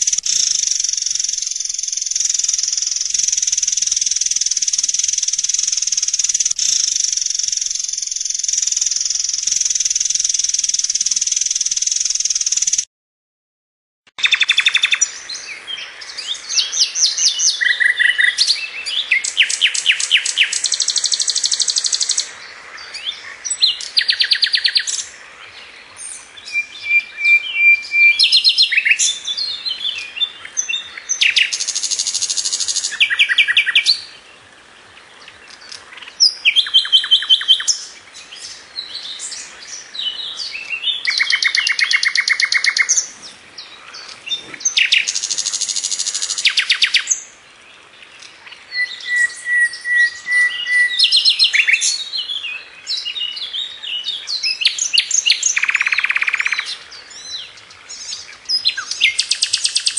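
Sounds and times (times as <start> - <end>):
songbird trilling and whistling: 0.0 - 12.9, 14.2 - 22.3, 22.9 - 25.1, 26.0 - 34.1, 35.5 - 47.3, 48.2 - 59.9.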